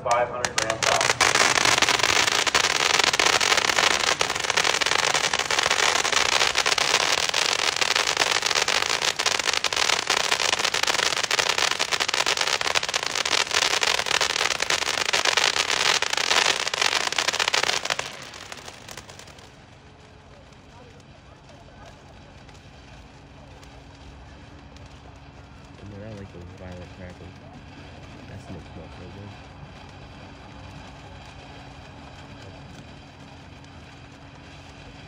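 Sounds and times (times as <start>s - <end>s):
firework crackling: 0.0s - 35.0s.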